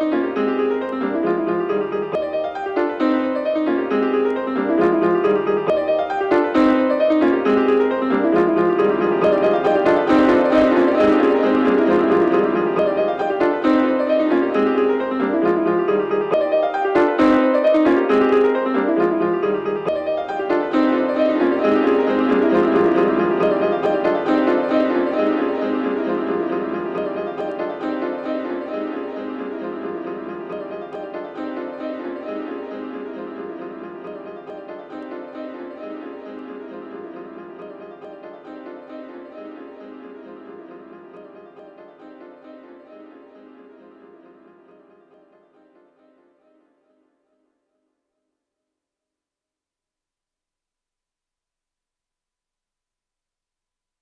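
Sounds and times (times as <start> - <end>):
classical piano music: 0.0 - 46.6.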